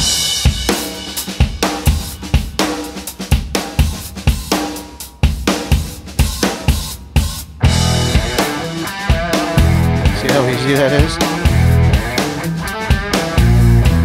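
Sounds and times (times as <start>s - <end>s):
drum kit beat: 0.0s - 14.0s.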